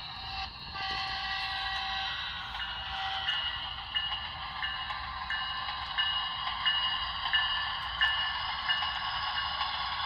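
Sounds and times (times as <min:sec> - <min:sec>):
model train rolling on rails: 0:00.0 - 0:10.0.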